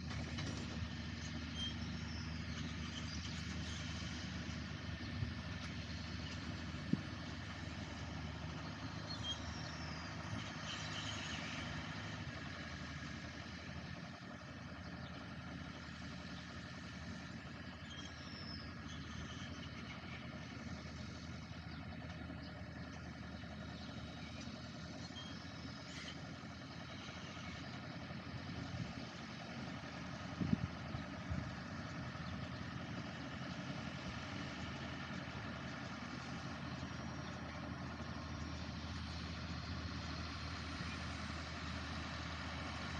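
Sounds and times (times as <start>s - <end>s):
farm machine engine running: 0.0s - 42.9s.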